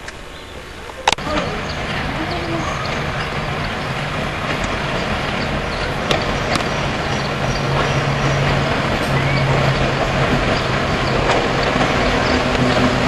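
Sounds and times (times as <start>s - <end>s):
train rumble with low hum: 0.0s - 13.0s.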